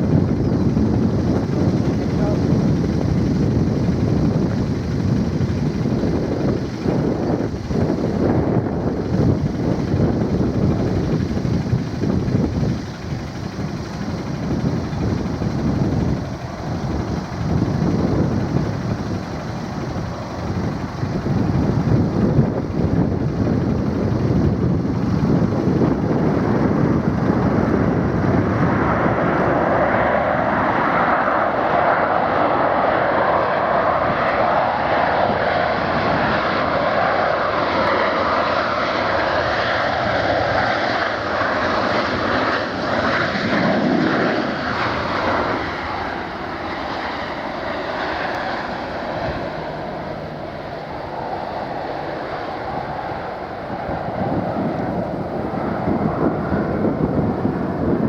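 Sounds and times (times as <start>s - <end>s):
jet airliner engines: 0.0s - 58.0s.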